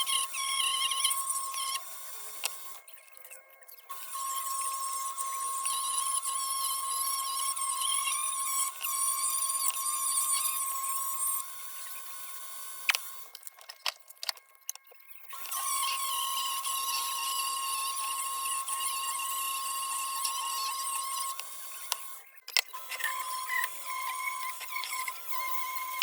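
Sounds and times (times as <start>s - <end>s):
rotary tool high-pitched whine: 0.0s - 26.0s.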